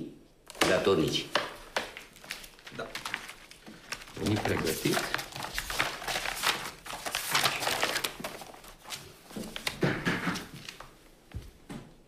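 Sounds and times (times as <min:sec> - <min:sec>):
paper pages rustling and flapping: 0:00.5 - 0:11.1.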